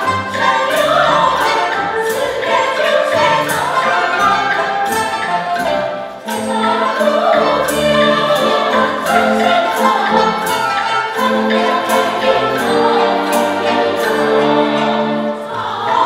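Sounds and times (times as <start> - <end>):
string orchestra: 0.0 - 16.0
women's choir singing: 0.0 - 16.0.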